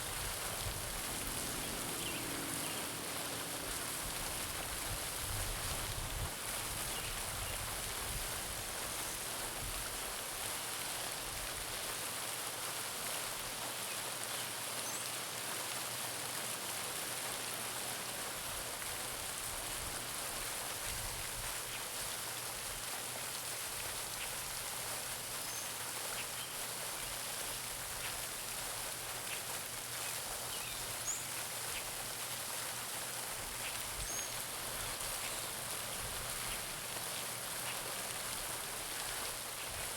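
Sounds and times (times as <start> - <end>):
fountain splashing into water: 0.0 - 39.9.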